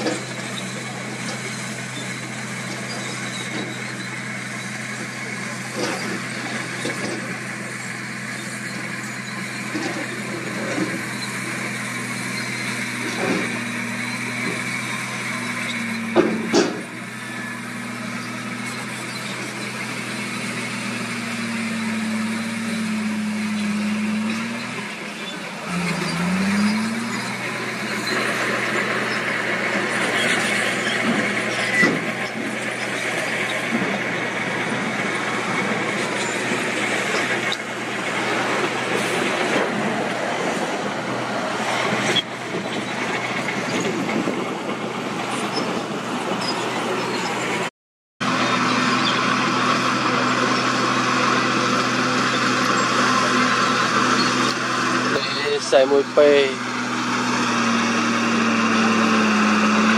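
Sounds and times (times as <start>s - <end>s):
diesel truck engine drone: 0.0s - 59.9s.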